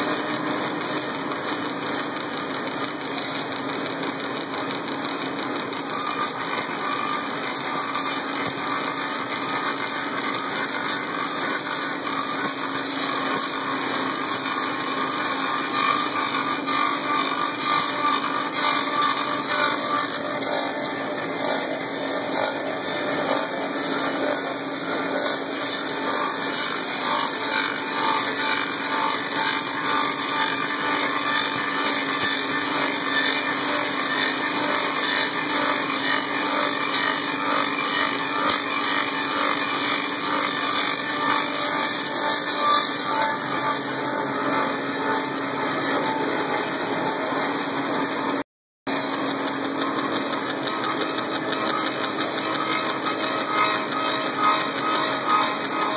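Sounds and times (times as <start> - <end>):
cutter rasping on wood: 0.0 - 55.9
lathe motor hum: 0.0 - 55.9.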